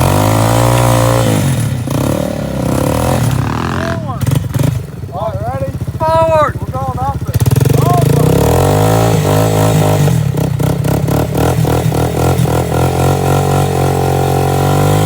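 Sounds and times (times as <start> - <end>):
off-road engine running: 0.0 - 15.0.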